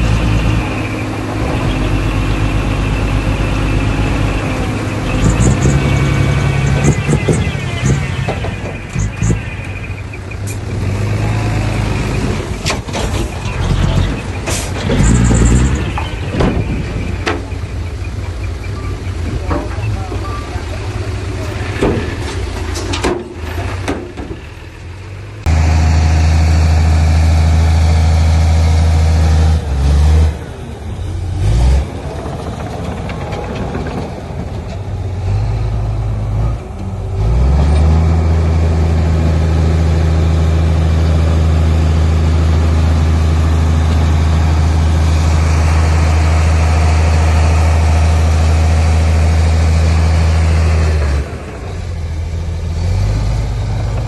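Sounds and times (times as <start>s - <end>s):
diesel engine deep drone: 0.0s - 54.0s.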